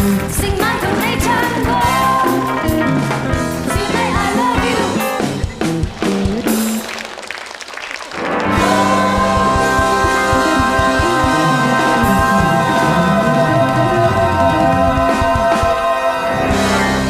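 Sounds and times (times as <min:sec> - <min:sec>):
upbeat band music with vocals: 0:00.0 - 0:07.1, 0:08.2 - 0:17.0.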